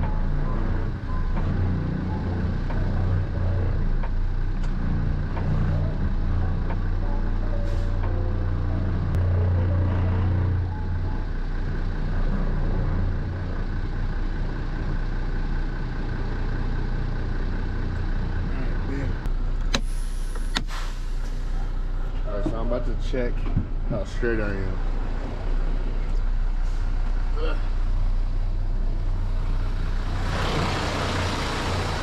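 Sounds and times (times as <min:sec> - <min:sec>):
truck diesel engine droning: 0:00.0 - 0:32.0.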